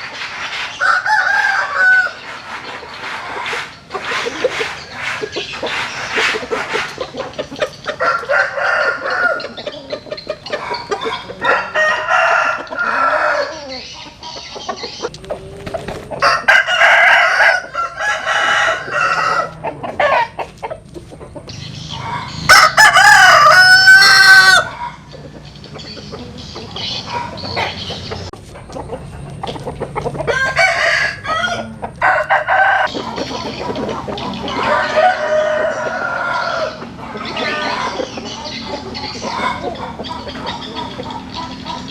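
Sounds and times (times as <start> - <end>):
roosters crowing: 0.0 - 41.9.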